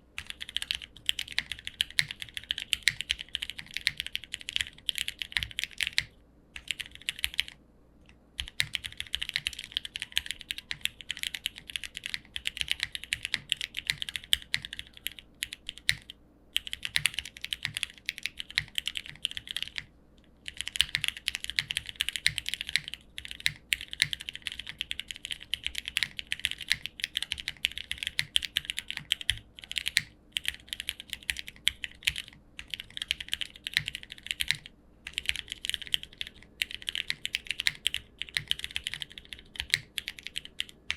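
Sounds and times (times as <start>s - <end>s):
mechanical keyboard typing: 0.2s - 7.6s, 8.4s - 40.9s.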